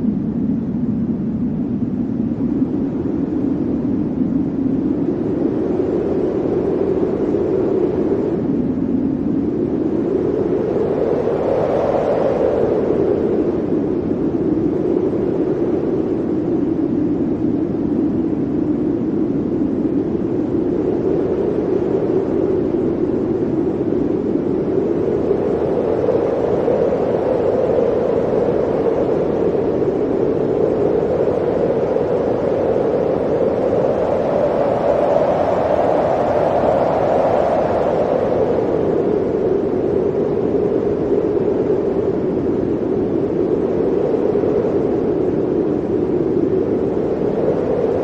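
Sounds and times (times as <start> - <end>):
howling blizzard wind: 0.0 - 48.0.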